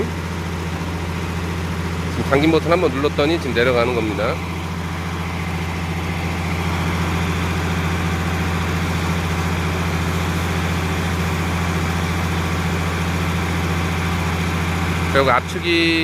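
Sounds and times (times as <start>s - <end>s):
car press machine humming: 0.0s - 16.0s.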